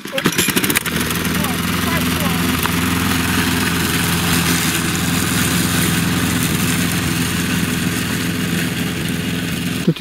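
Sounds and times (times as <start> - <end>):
lawn mower engine drone: 0.0 - 10.0
mower blade cutting grass: 0.0 - 10.0.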